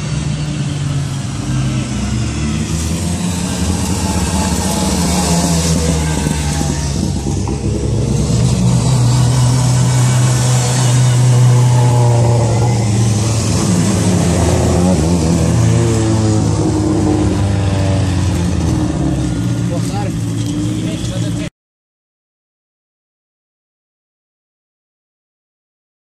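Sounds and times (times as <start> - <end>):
rally car engines: 0.0 - 21.5.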